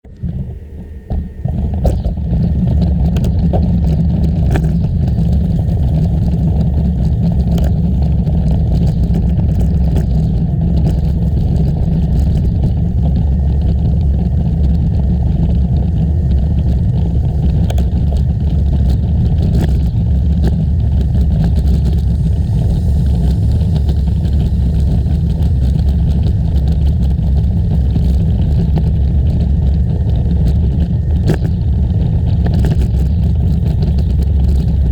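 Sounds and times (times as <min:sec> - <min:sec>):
wind rumble on microphone: 0:00.0 - 0:34.9
bicycle clicks and rattles: 0:01.5 - 0:34.9.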